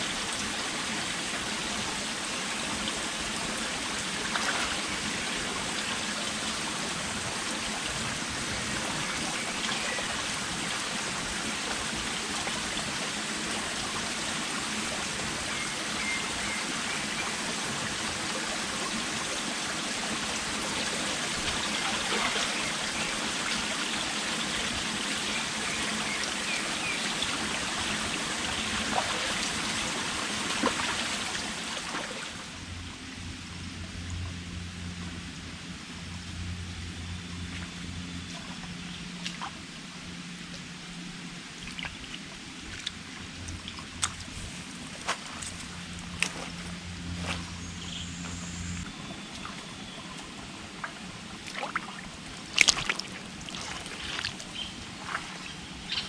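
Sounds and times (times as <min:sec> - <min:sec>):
running water: 0:00.0 - 0:32.7, 0:38.3 - 0:56.0.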